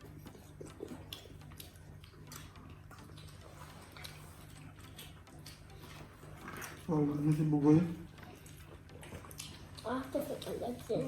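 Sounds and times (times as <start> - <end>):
chewing and utensil clicks: 0.0 - 11.0
low steady hum: 0.0 - 11.0.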